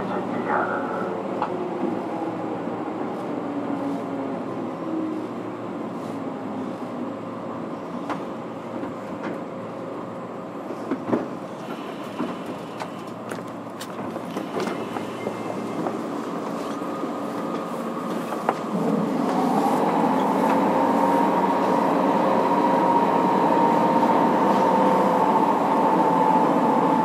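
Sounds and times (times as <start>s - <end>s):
wheels rumbling on rail: 0.0s - 27.0s.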